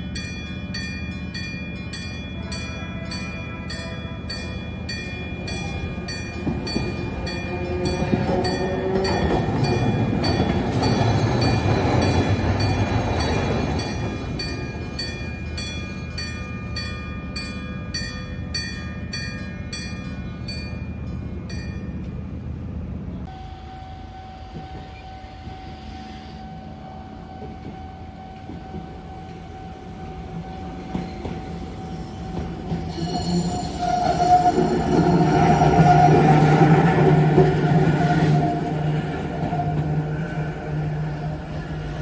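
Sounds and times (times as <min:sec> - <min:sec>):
rail traffic rumble: 0:00.0 - 0:42.0.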